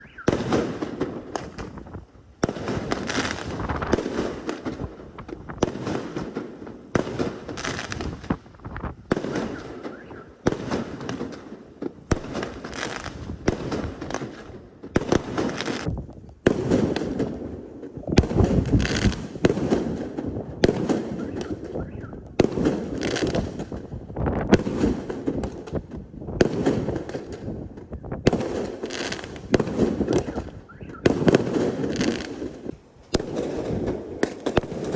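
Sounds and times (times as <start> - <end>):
firework crackling: 0.0 - 34.9.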